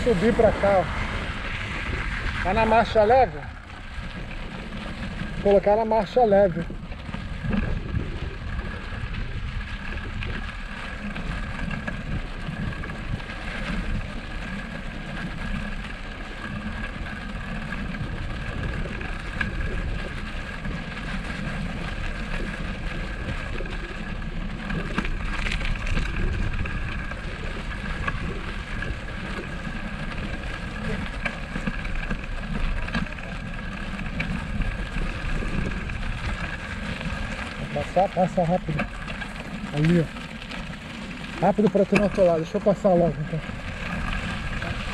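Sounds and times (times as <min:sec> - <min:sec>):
bicycle rumbling: 0:00.0 - 0:44.9
wind buffeting microphone: 0:00.0 - 0:44.9.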